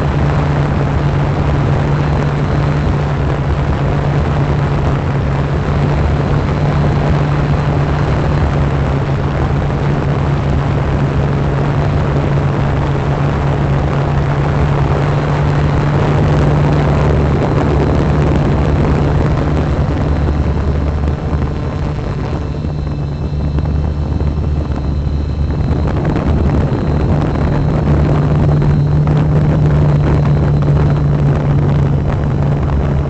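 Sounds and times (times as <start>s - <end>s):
drone propellers humming: 0.0s - 33.0s
rushing noise: 0.0s - 33.0s.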